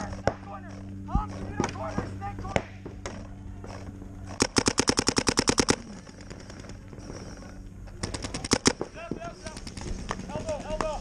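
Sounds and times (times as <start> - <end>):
paintball marker firing rapid shots: 0.0 - 6.4, 8.0 - 11.0.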